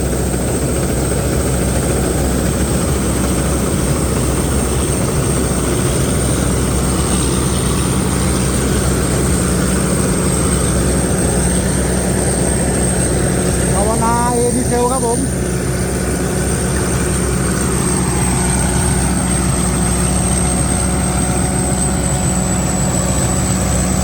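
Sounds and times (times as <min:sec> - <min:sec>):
diesel engine running: 0:00.0 - 0:24.0
high whine: 0:00.0 - 0:24.0.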